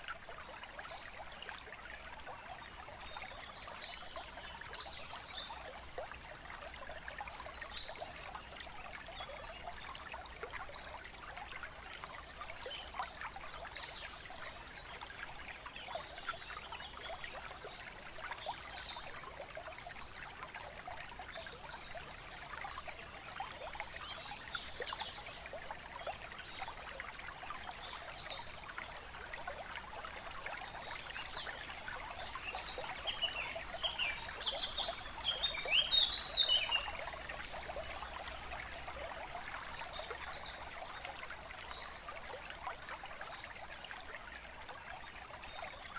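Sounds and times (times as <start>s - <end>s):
running water trickling: 0.0s - 45.9s.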